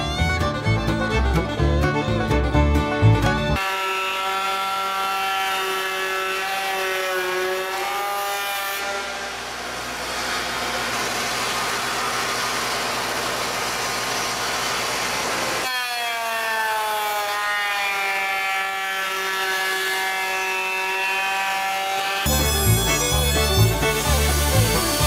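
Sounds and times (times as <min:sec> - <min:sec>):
belt sander grinding steel: 0:03.6 - 0:25.0
sander motor whine winding down: 0:03.6 - 0:25.0.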